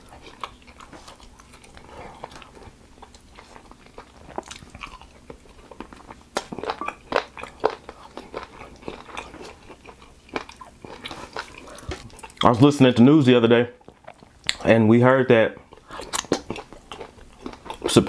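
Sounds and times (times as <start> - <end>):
man chewing: 0.0 - 12.5, 13.8 - 14.7, 15.6 - 18.0.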